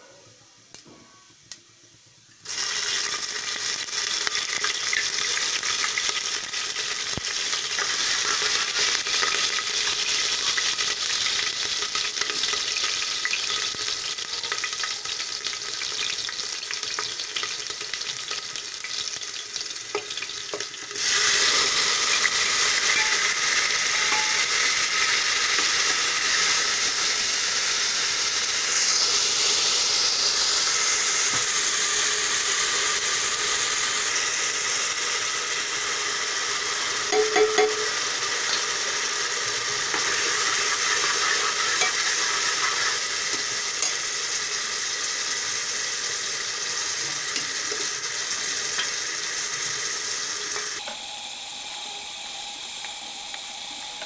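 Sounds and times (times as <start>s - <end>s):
spices sizzling in hot oil: 2.2s - 54.0s.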